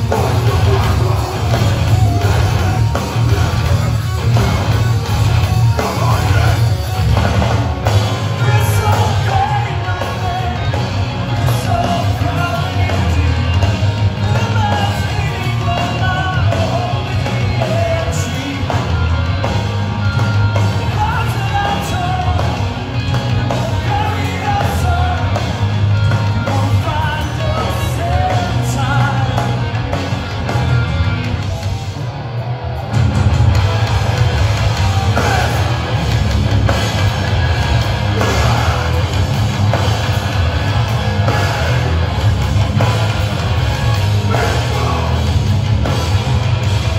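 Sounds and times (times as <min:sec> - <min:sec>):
sung lead vocal: 0:00.0 - 0:31.1, 0:34.8 - 0:46.9
loud live hardcore band: 0:00.0 - 0:46.9.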